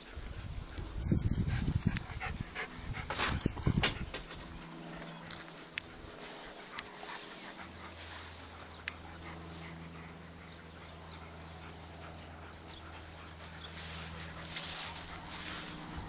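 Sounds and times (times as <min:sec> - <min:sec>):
dog panting and whimpering: 0:00.0 - 0:16.0.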